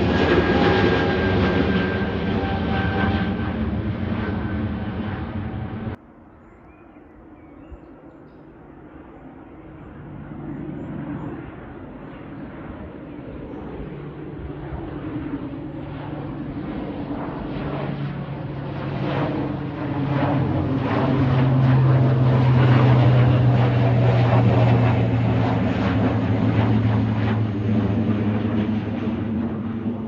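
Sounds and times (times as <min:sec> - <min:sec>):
airliner passing by: 0:00.0 - 0:30.0.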